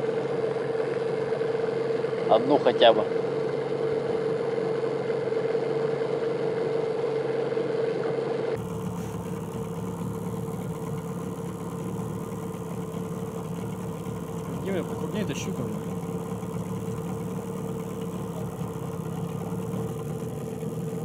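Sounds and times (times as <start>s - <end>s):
outboard motor humming: 0.0s - 21.0s.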